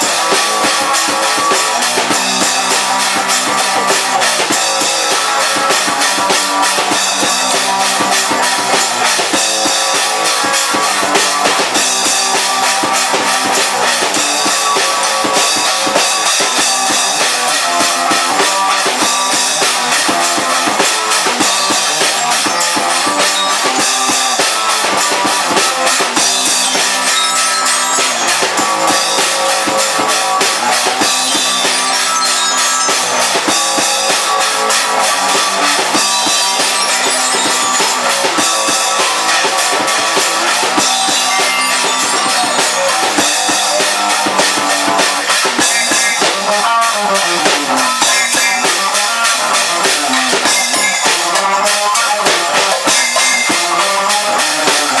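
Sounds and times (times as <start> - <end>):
rock music with drums and guitar: 0.0 - 55.0.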